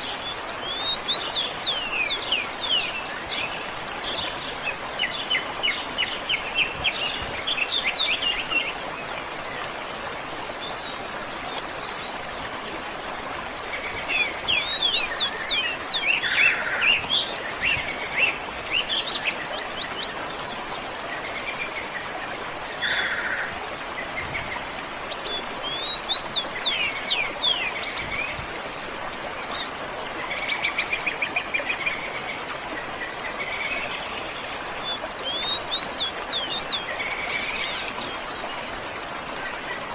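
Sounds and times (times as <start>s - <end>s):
birds calling and singing: 0.0s - 9.6s, 13.6s - 38.8s
waterfall rushing: 0.0s - 39.9s.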